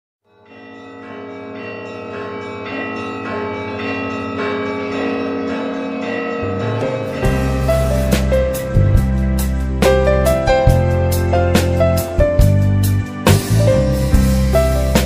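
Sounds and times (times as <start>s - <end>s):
church bells ringing a peal: 0.3s - 15.0s.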